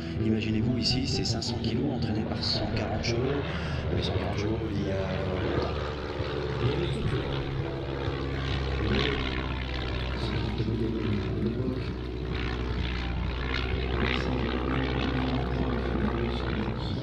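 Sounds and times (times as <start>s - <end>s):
propeller plane droning past: 0.0s - 17.0s.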